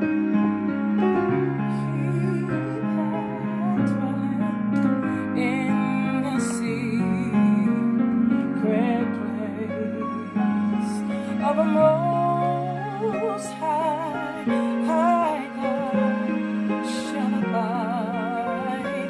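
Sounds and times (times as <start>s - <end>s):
woman singing with vibrato: 1.4s - 7.9s, 8.6s - 19.0s.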